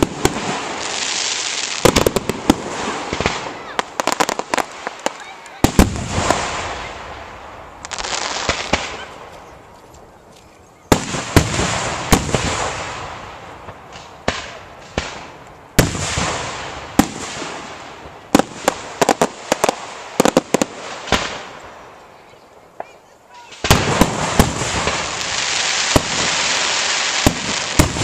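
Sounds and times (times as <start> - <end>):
sharp firework cracks: 0.0 - 9.4, 10.9 - 21.7, 22.8 - 28.0
crackling hiss: 0.0 - 28.0.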